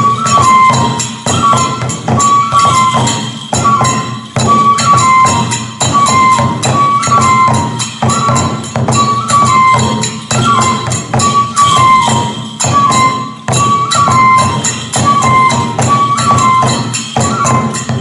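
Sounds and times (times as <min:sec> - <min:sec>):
bamboo flute melody: 0:00.0 - 0:18.0
small hand cymbals jingling: 0:00.0 - 0:18.0
taiko drum strokes: 0:00.0 - 0:18.0.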